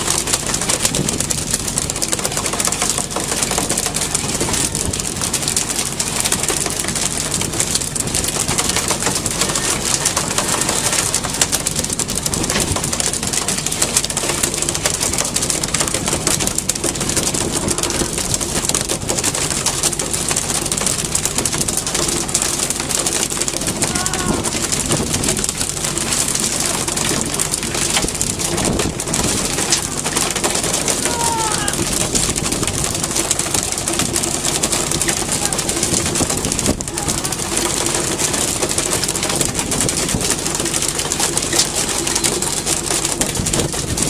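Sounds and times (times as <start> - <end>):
boat engine humming: 0.0 - 44.0
constant crackling noise: 0.0 - 44.0.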